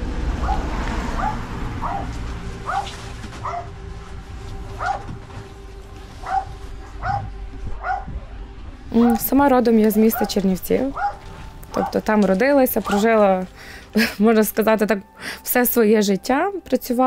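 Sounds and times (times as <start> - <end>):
low rumble: 0.0 - 14.6.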